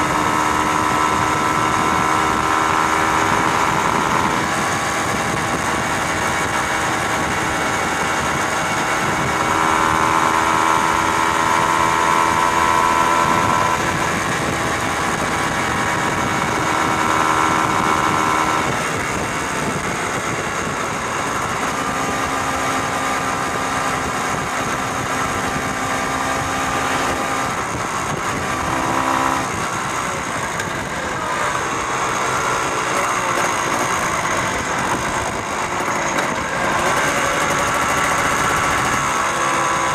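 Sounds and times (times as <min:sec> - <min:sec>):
vehicle engine running: 0:00.0 - 0:39.9
wind and road noise: 0:00.0 - 0:39.9.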